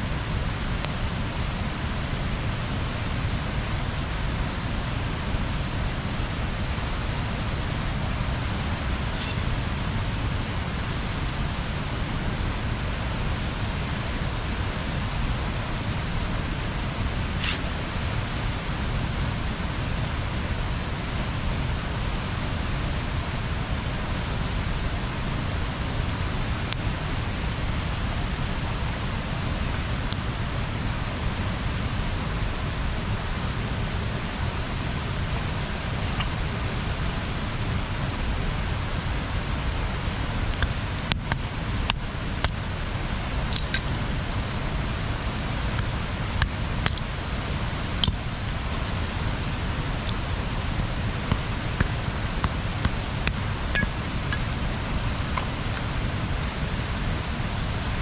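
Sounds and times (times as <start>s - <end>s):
bonfire burning with rushing hiss: 0.0s - 58.0s.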